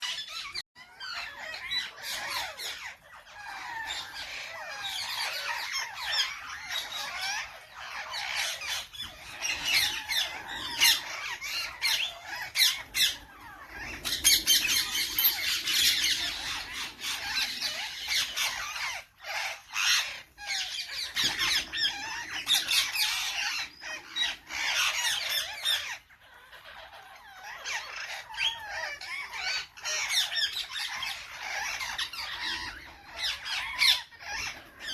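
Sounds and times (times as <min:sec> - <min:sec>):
parrots squawking and chattering: 0:00.0 - 0:34.9.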